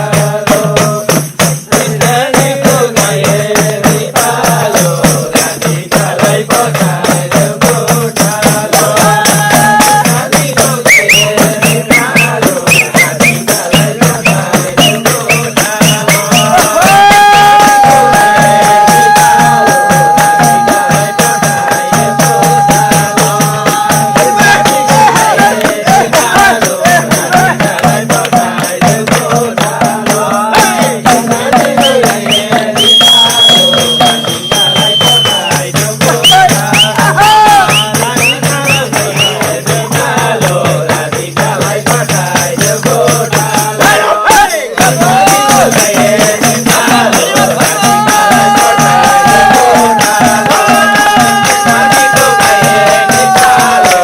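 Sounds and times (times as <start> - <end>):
jingling percussion: 0.0 - 54.0.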